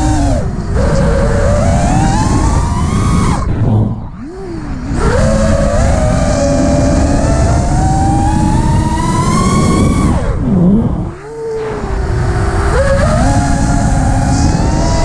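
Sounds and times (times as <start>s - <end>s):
quadcopter motors whining: 0.0s - 15.0s
wind noise on microphone: 0.0s - 15.0s.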